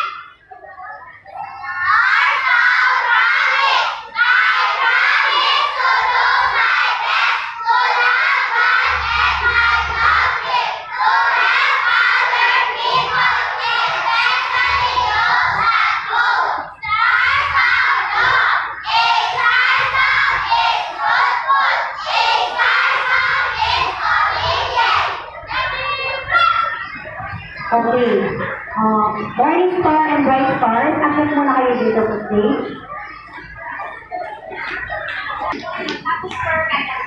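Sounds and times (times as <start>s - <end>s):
children reciting in unison: 0.0s - 29.8s, 31.7s - 37.0s.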